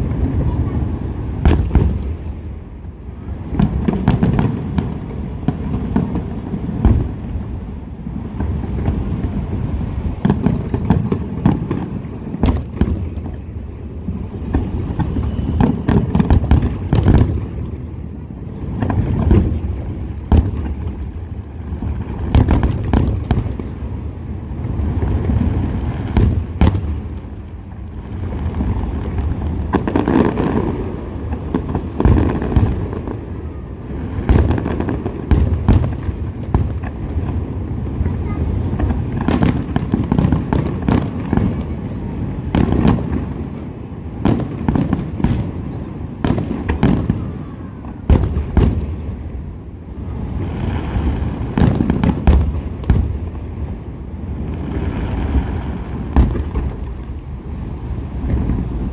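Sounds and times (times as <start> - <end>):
fireworks booms and cracks: 0.0 - 58.9.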